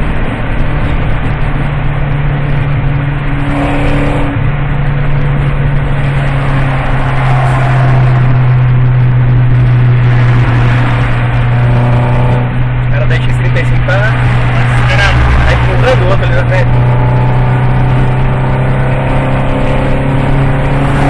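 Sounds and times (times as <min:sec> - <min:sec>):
car engine and exhaust drone: 0:00.0 - 0:21.0.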